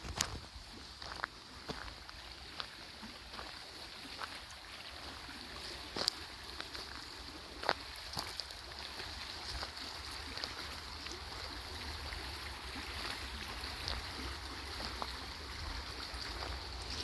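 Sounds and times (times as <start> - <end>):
flowing stream water: 0.0 - 17.0.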